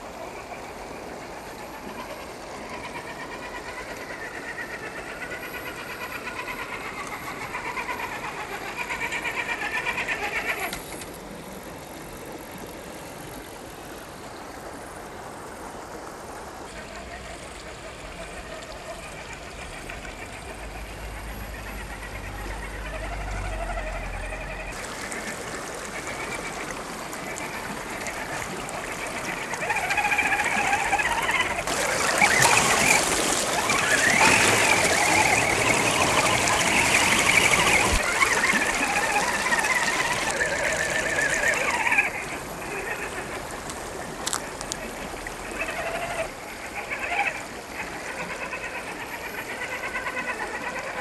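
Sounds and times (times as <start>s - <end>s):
water splashing and rushing: 0.0s - 51.0s.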